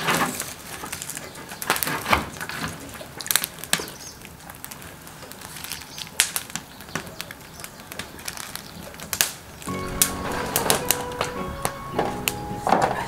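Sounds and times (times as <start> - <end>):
burning sticks popping: 0.0 - 13.0
wood fire crackling: 0.0 - 13.0.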